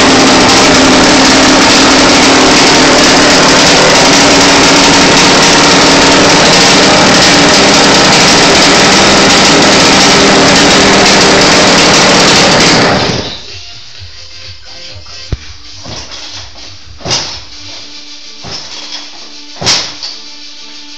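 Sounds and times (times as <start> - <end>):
two-stroke engine running: 0.0 - 20.2.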